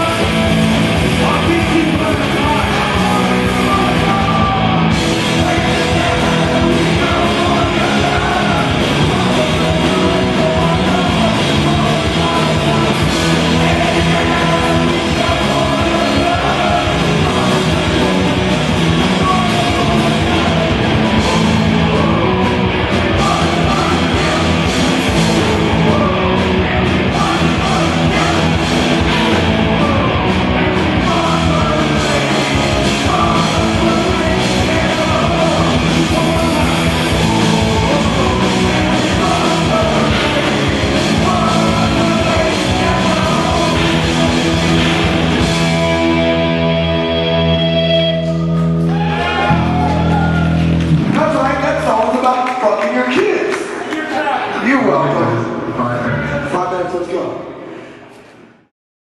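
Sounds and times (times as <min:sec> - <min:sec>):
electric guitars: 0:00.0 - 0:51.9
bass guitar: 0:00.0 - 0:52.3
drums: 0:00.0 - 0:56.5.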